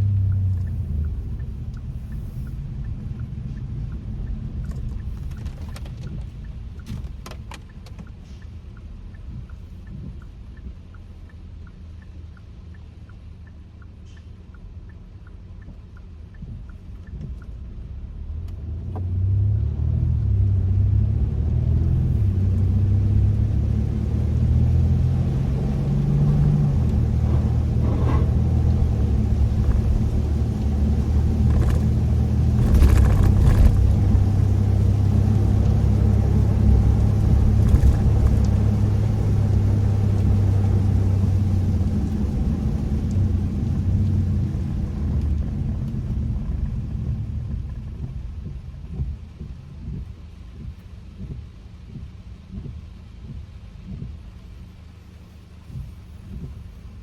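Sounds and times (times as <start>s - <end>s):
car engine and road rumble: 0.0s - 57.0s
turn signal ticking: 0.0s - 57.0s.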